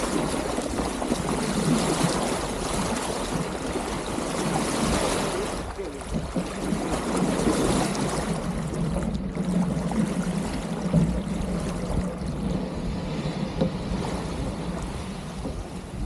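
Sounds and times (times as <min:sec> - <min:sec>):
water rushing and splashing: 0:00.0 - 0:16.0.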